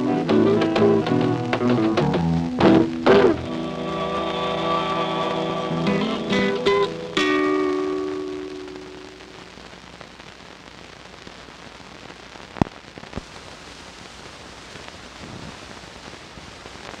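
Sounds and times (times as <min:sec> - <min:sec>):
film hiss with faint crackle: 0:00.0 - 0:17.0.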